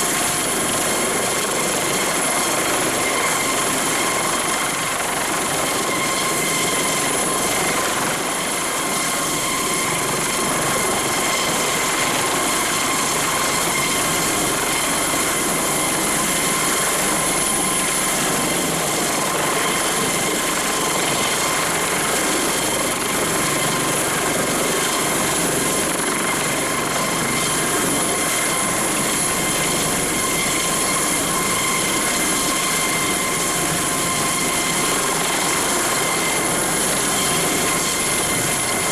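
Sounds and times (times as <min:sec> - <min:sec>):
helicopter rotor noise: 0:00.0 - 0:38.9
high-pitched turbine whine: 0:00.0 - 0:38.9.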